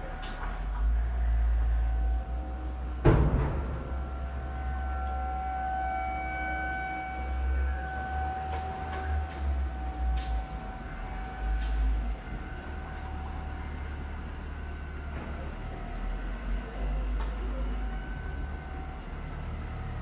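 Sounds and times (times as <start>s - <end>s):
low rumble: 0.0s - 20.0s
warning siren steady tone: 0.0s - 20.0s.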